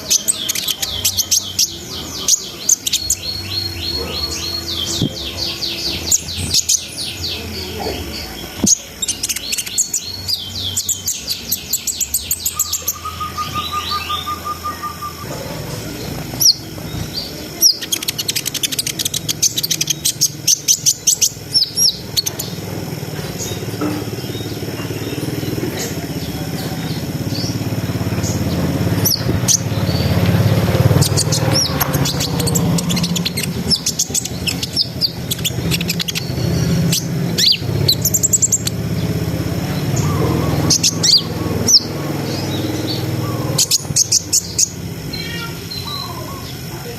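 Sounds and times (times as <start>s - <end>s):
sunbird singing: 0.0s - 46.9s.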